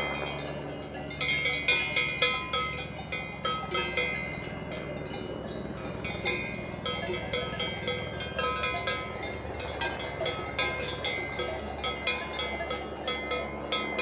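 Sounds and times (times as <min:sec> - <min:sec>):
cowbells clanging: 0:00.0 - 0:14.0.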